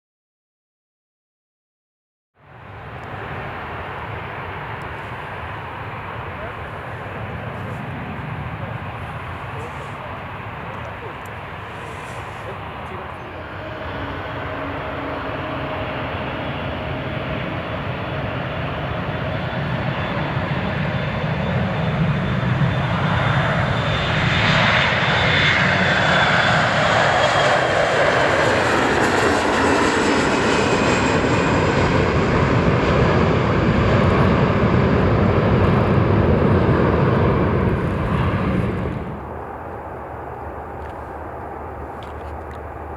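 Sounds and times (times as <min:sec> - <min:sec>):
jet engines passing: 0:02.4 - 0:42.9.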